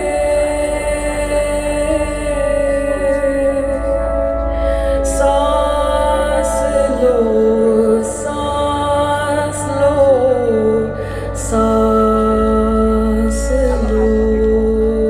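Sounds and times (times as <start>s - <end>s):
deep bass: 0.0s - 15.0s
slow melody with gliding notes: 0.0s - 15.0s.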